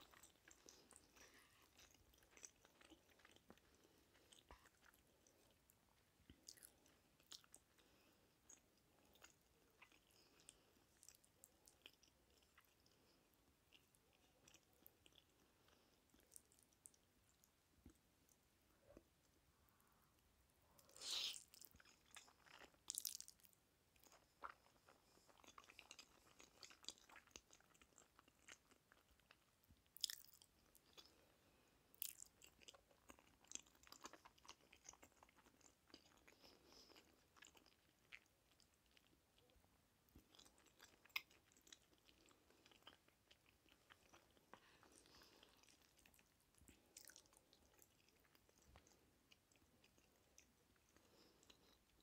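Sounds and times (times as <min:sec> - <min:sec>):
person chewing noodles: 0:00.0 - 0:18.4, 0:20.7 - 0:52.0.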